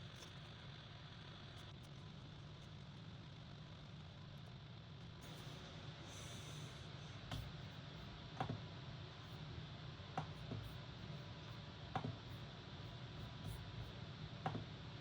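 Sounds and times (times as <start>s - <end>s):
room noise hum and hiss: 0.0s - 15.0s.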